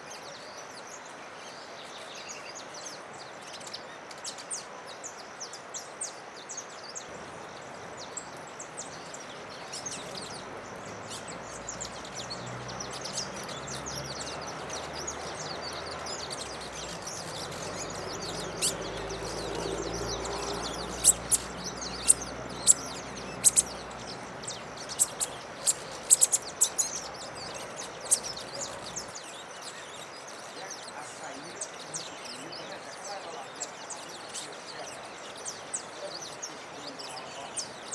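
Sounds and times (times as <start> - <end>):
songbirds chirping: 0.0 - 37.9.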